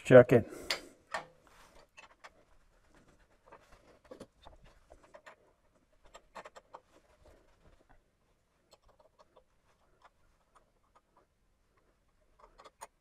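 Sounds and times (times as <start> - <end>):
faint handling clicks and taps: 0.6 - 13.0.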